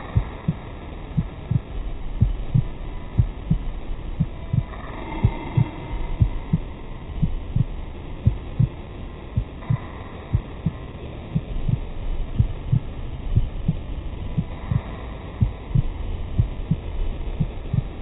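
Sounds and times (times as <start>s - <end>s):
dull low thumps: 0.0s - 18.0s
faint steady hum: 0.0s - 18.0s.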